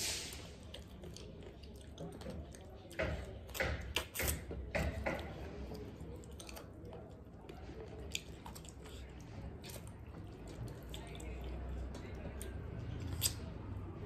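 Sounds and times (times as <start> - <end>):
wet chewing: 0.0 - 13.9
soft food squishing: 0.0 - 14.0.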